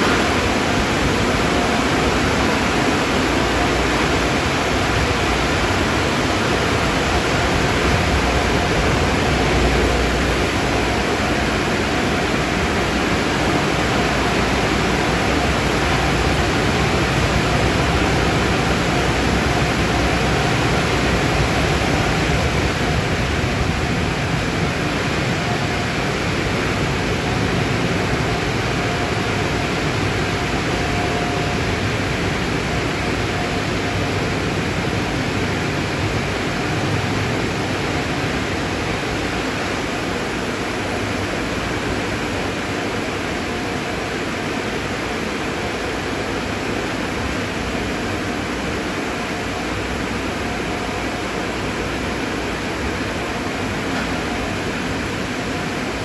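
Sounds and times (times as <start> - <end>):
car wash equipment rushing: 0.0 - 56.0.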